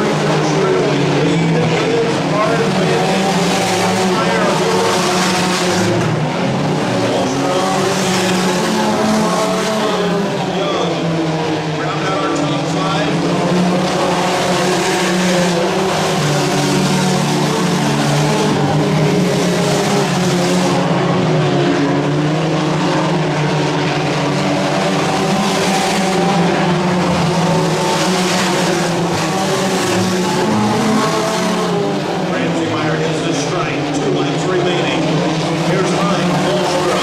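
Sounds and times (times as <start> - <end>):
race car engines droning: 0.0 - 37.0.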